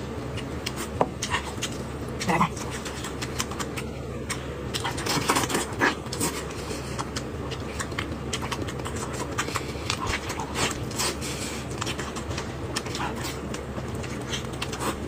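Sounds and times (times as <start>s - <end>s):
chewing with wet clicks: 0.0s - 15.0s
steady low hum: 0.0s - 15.0s.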